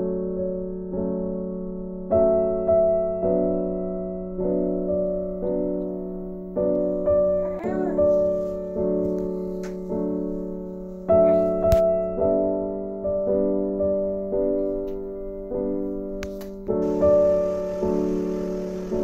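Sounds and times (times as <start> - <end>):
slow solo piano piece: 0.0 - 19.0.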